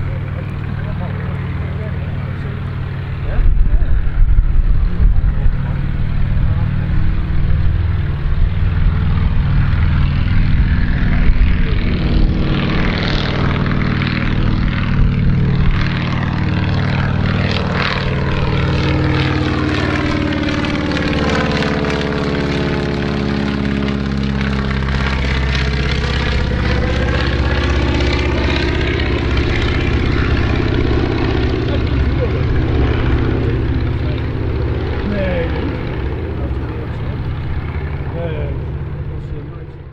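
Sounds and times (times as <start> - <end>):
biplane engine drone: 0.0 - 39.9.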